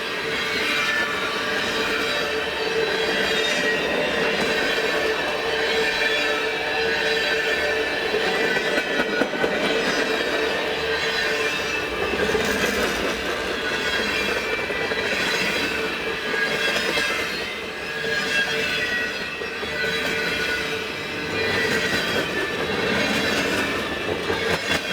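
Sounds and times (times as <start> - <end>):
freight train rolling past: 0.0 - 24.9.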